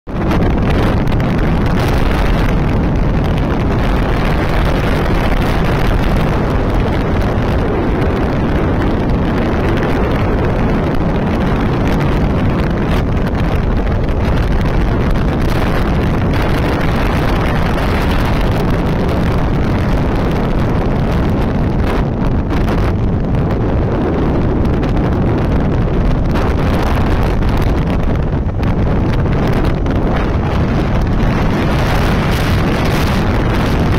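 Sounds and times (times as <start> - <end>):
wind rushing over microphone: 0.0 - 33.9
motorcycle riding: 0.1 - 33.9.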